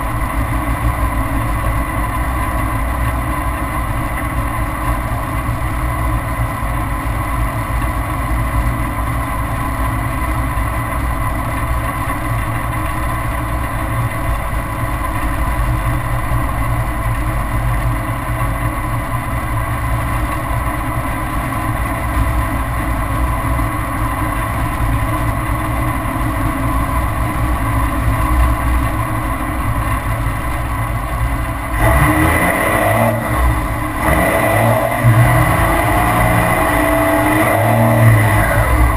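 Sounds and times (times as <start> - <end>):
diesel exhaust rumbling: 0.0 - 38.9.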